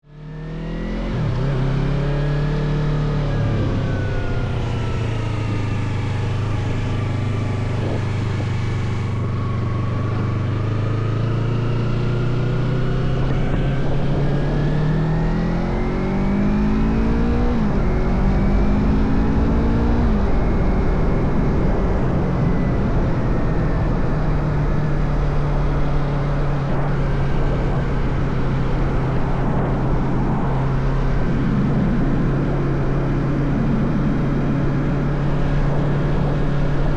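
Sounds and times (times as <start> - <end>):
motorcycle engine accelerating: 0.0 - 36.9
wind rush: 3.3 - 11.1, 11.8 - 36.9.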